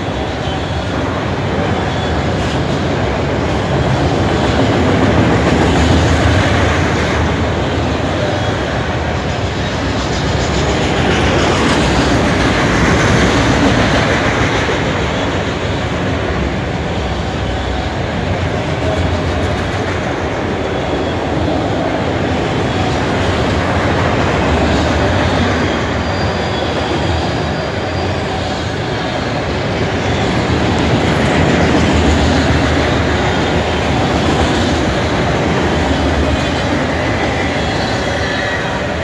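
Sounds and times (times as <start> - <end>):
freight train rumble and rattle: 0.0 - 39.0.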